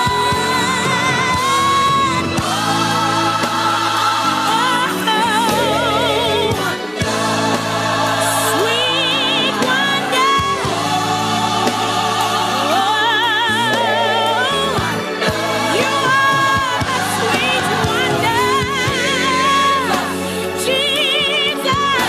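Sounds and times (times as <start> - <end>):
gospel singing with vibrato: 0.0 - 22.0.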